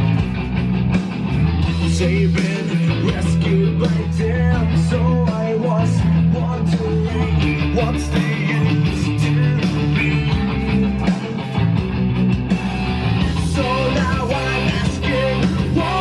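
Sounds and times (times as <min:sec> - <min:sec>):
rock song through speaker: 0:00.0 - 0:16.0.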